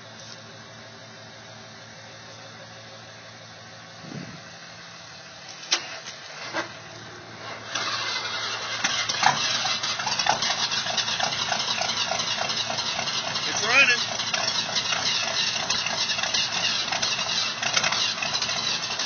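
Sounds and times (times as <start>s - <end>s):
truck engine running roughly: 0.0s - 19.0s.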